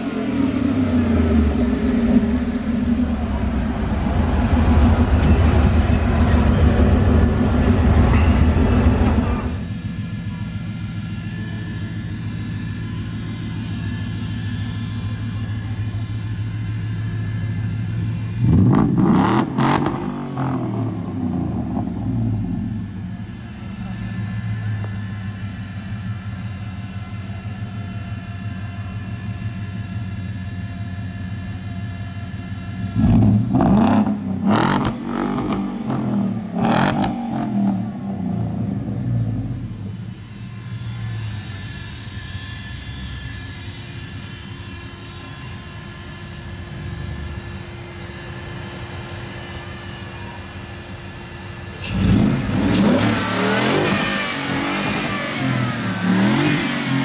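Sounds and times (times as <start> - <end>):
engine idling and revving: 0.0 - 57.0.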